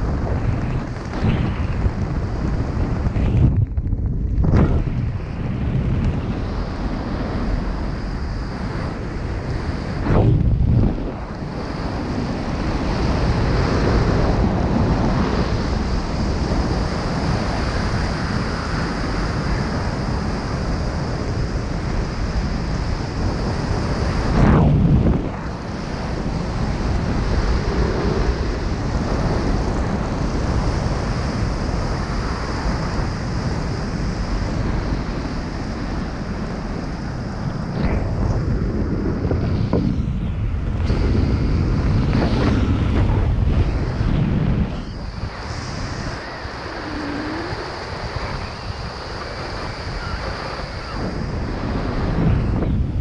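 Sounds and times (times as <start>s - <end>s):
low wind buffet: 0.0s - 53.0s
wind noise on microphone: 0.0s - 53.0s.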